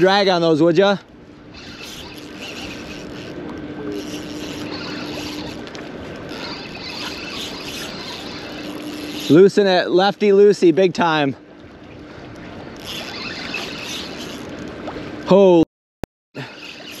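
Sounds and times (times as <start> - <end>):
water sloshing against pier wall: 0.0 - 15.3.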